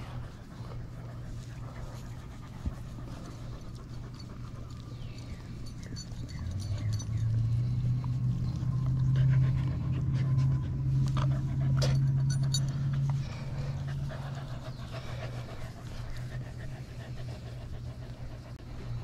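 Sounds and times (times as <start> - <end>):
dogs panting: 0.0 - 19.0
steady low hum: 0.0 - 19.0.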